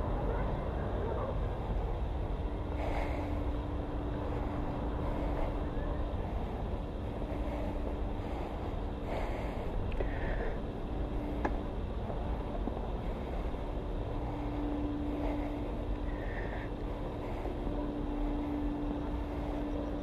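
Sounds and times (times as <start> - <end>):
droning hum: 0.0 - 20.0
outdoor background rumble: 0.0 - 20.0.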